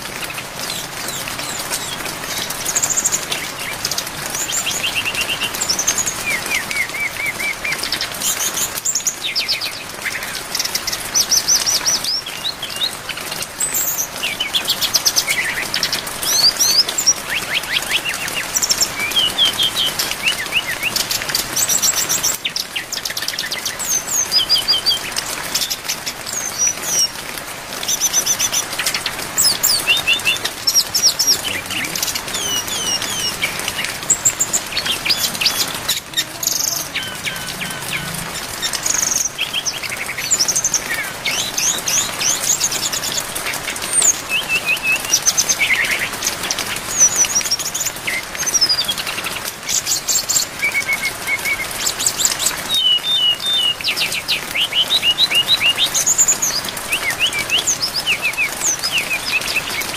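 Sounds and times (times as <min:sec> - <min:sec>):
bird singing high chirps and trills: 0:00.0 - 0:59.9
steady rain hiss: 0:00.0 - 0:59.9.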